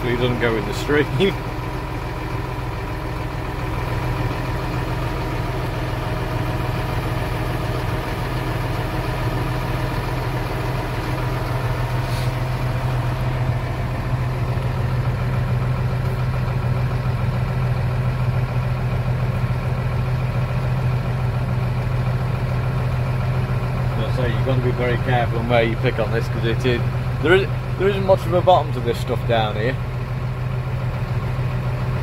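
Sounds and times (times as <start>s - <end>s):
tractor engine hum from cab: 0.0s - 32.0s.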